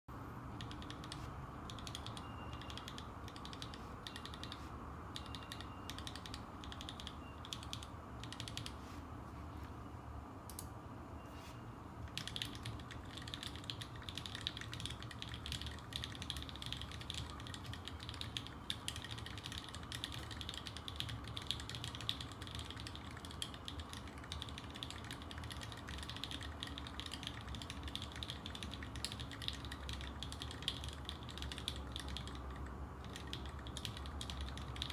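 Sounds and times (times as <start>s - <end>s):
mechanical keyboard typing: 0.5s - 8.8s, 12.0s - 34.9s.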